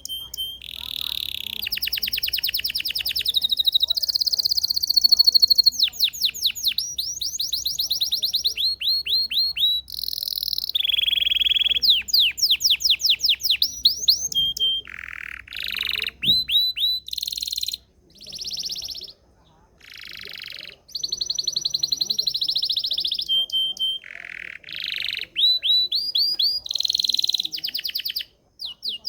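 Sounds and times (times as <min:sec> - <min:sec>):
canary singing: 0:00.0 - 0:29.0.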